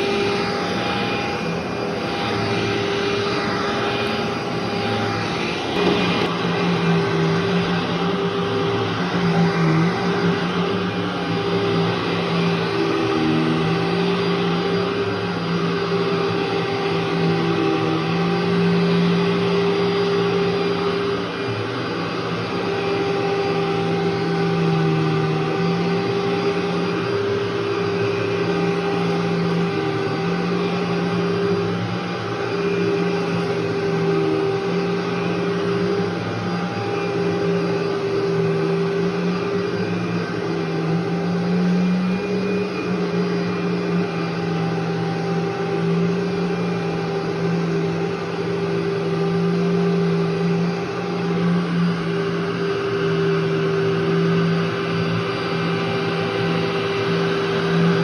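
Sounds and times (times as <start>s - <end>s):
vacuum cleaner on carpet: 0.0s - 58.0s.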